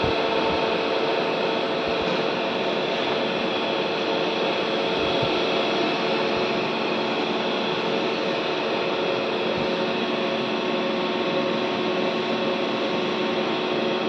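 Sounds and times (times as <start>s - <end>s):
machine whirring: 0.0s - 14.0s.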